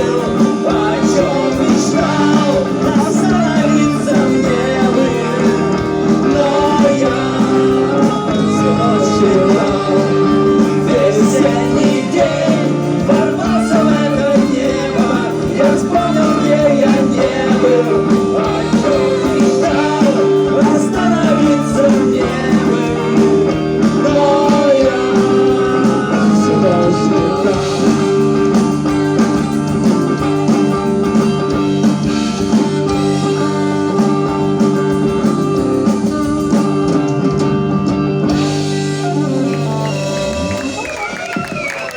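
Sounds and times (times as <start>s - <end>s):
backing track with guitar: 0.0s - 41.9s
saxophone melody: 0.0s - 41.9s.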